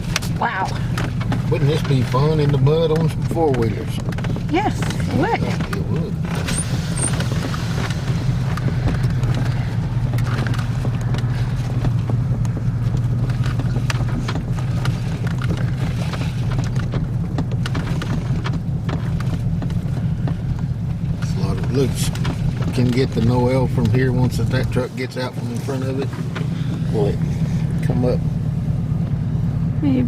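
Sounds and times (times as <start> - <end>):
light clicks and rattles: 0.0 - 28.3
car engine and road hum: 0.0 - 30.0.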